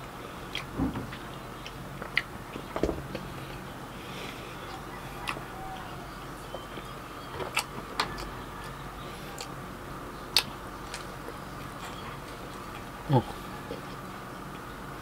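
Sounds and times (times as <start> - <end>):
person chewing: 0.0 - 9.6, 10.3 - 14.7.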